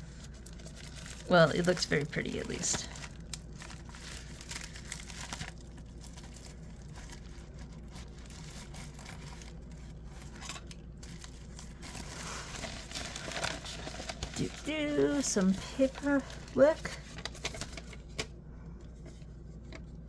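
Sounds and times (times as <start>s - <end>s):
low steady hum: 0.0s - 20.0s
packaging crinkling and rustling: 0.0s - 20.0s
soft crackles: 0.0s - 20.0s.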